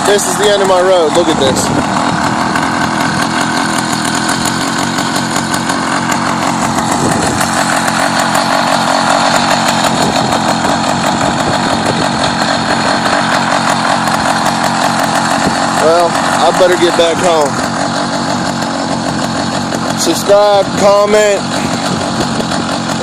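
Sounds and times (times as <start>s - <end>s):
small engine buzzing: 0.0s - 23.0s.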